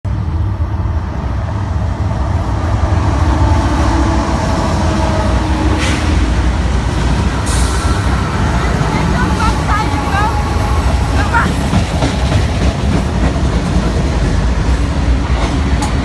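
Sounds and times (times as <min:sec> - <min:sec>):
train passing rumble: 0:00.1 - 0:16.0.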